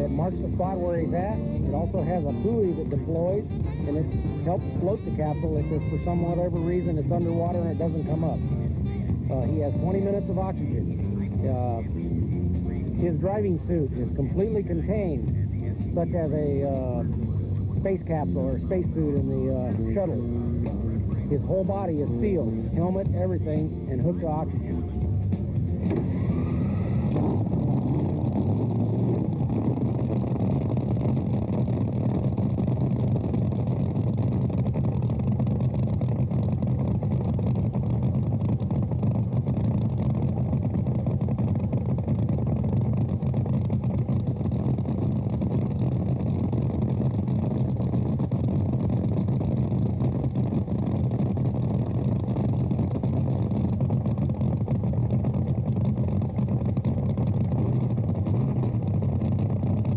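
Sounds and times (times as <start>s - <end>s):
boat engine idling: 0.0s - 59.9s.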